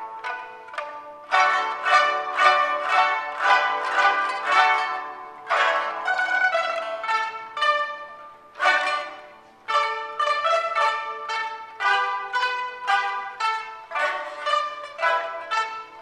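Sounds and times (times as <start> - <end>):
plucked lute ensemble: 0.0 - 16.0.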